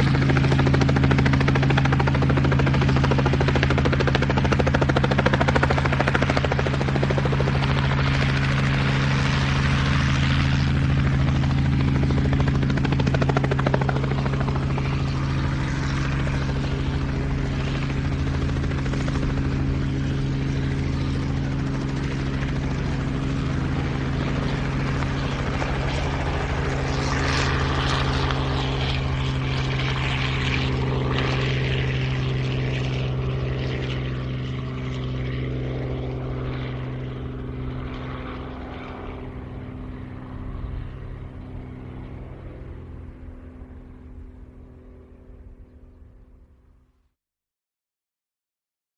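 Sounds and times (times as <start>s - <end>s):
helicopter rotor and engine drone: 0.0s - 47.1s.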